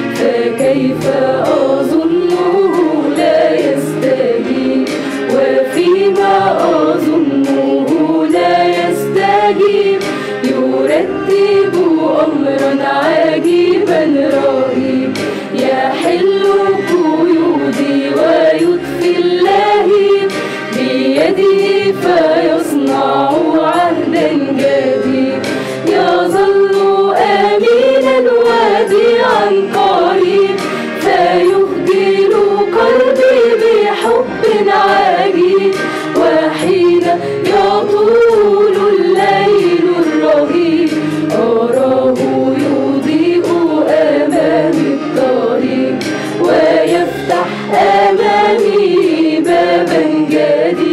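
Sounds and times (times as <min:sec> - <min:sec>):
mixed choir singing a hymn: 0:00.0 - 0:50.9.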